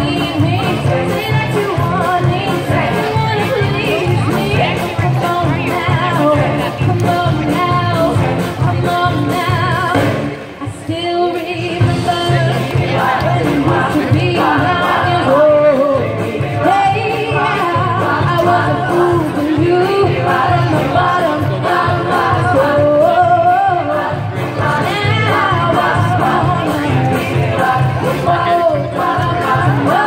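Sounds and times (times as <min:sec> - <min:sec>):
group singing pop song: 0:00.0 - 0:30.0
music with steady beat: 0:00.0 - 0:30.0.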